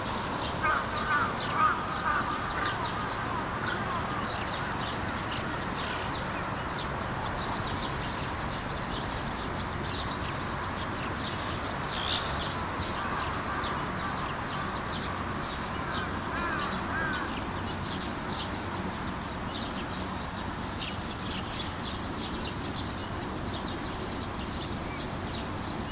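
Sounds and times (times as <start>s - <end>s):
steady background noise: 0.0s - 25.9s.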